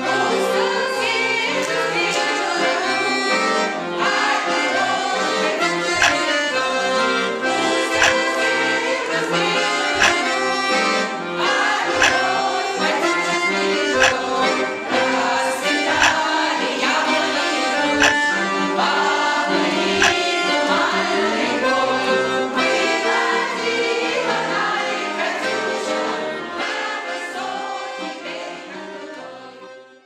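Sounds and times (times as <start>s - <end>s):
accordion playing chords: 0.0s - 30.0s.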